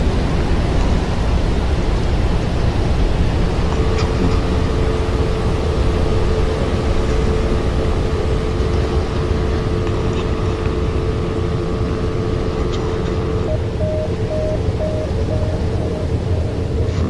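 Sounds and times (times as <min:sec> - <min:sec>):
droning tone: 0:00.0 - 0:17.0
low rumbling noise: 0:00.0 - 0:17.0.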